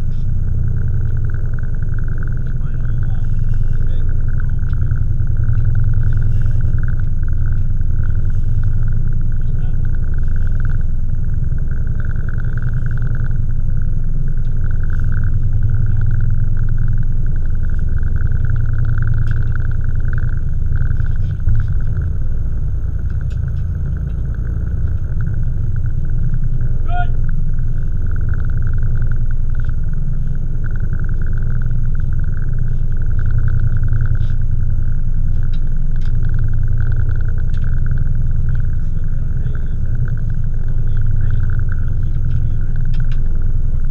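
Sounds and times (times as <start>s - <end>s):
boat engines rumbling: 0.0s - 43.9s
faint clicks: 0.0s - 43.9s.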